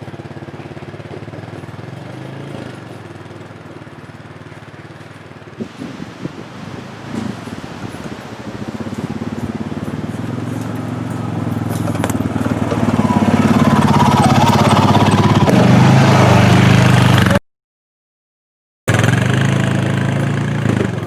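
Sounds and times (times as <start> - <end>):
single-cylinder engine running: 0.0 - 17.4, 18.9 - 21.0.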